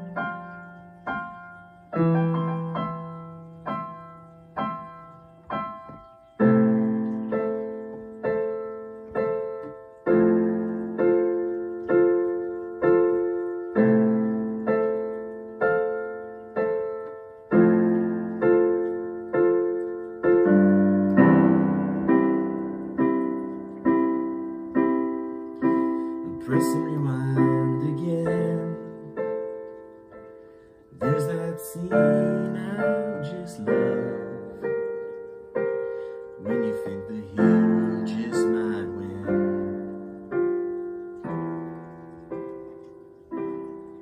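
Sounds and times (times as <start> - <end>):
digital piano chords: 0.0 - 44.0.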